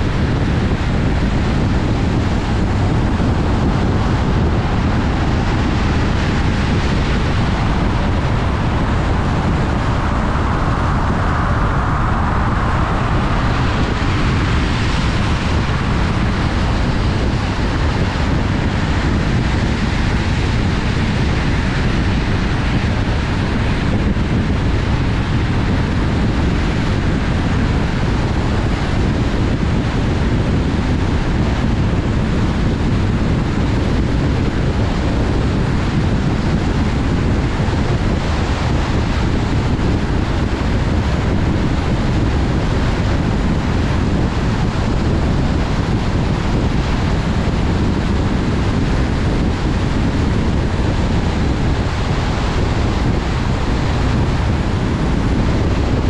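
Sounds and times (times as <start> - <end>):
deep road rumble: 0.0 - 56.0
wind over car: 0.0 - 56.0.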